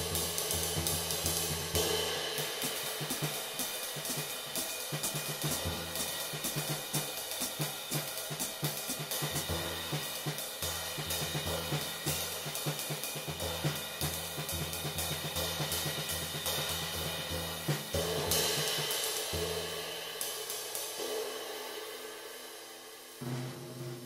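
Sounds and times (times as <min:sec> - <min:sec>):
low drum beats: 0:00.0 - 0:01.9, 0:02.7 - 0:19.7, 0:23.2 - 0:24.0
cymbal ringing in bright wash: 0:00.0 - 0:24.0
riveted ride cymbal sizzle: 0:00.0 - 0:24.0.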